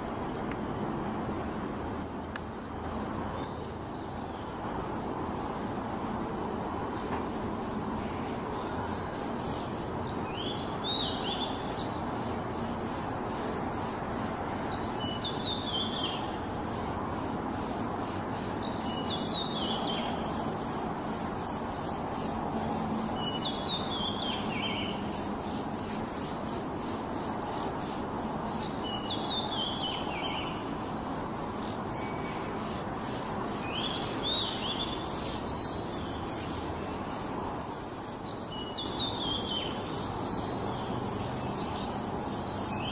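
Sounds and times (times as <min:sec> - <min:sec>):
loud background hiss: 0:00.0 - 0:42.9.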